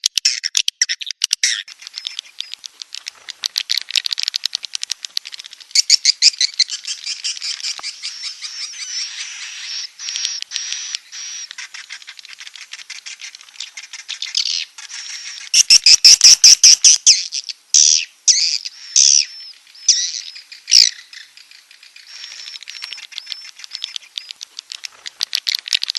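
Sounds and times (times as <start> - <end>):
recorded swiftlet calls: 0.0 - 25.9.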